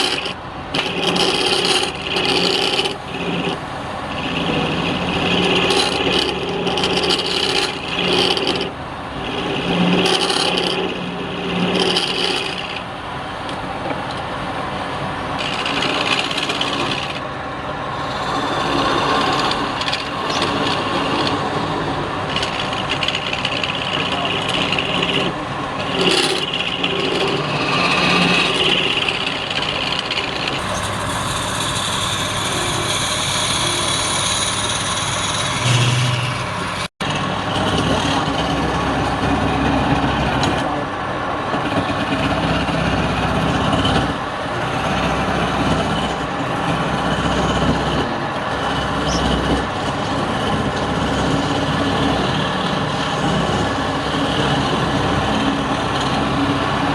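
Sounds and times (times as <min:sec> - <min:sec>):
turning tool cutting wood: 0:00.0 - 0:17.3, 0:17.9 - 0:40.9, 0:41.5 - 0:56.9
wood lathe motor running: 0:00.0 - 0:56.9.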